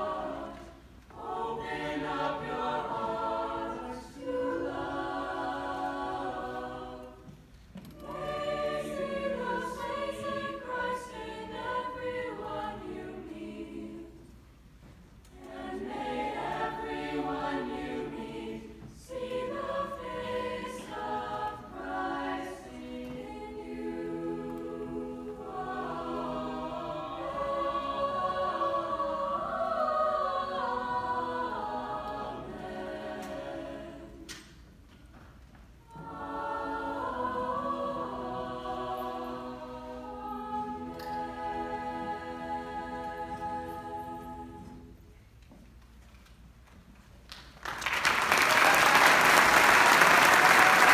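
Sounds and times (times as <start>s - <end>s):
choir singing unaccompanied: 0.0s - 14.4s, 15.3s - 34.6s, 35.9s - 45.2s.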